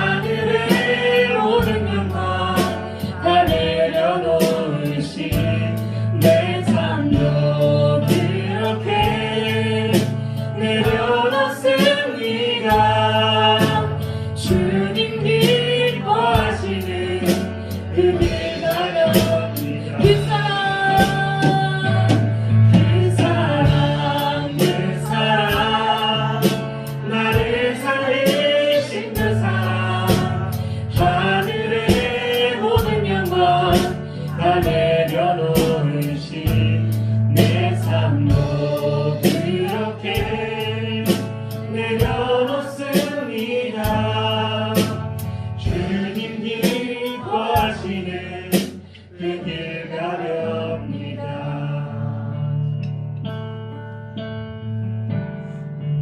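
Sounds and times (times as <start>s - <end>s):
steady drum beat: 0.0s - 48.9s
bass: 0.0s - 56.0s.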